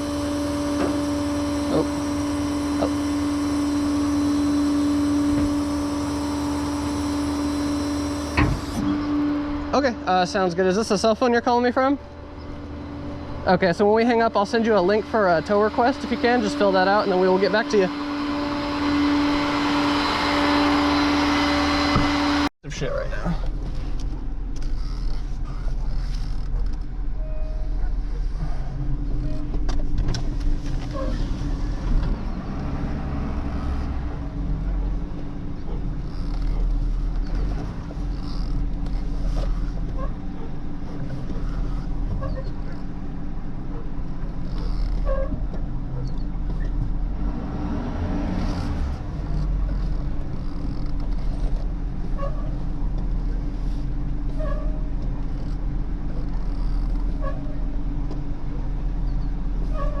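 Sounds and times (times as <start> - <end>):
truck engine droning: 0.0 - 60.0.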